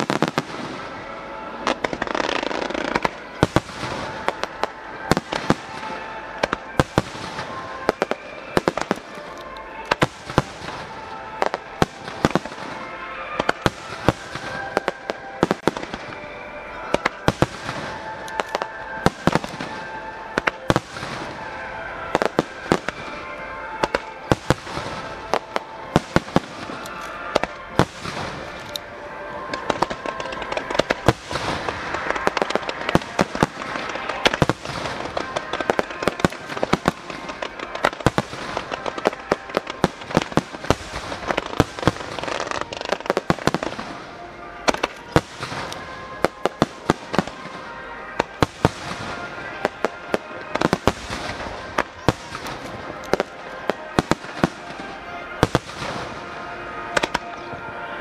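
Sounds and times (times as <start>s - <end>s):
fireworks bursting: 0.0s - 58.0s
music playing: 0.0s - 58.0s.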